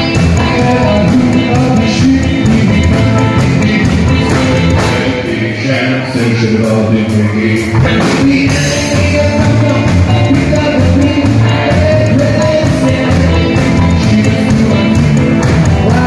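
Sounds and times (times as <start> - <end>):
drum kit: 0.0 - 16.0
electric guitars: 0.0 - 16.0
upright double bass: 0.0 - 16.0.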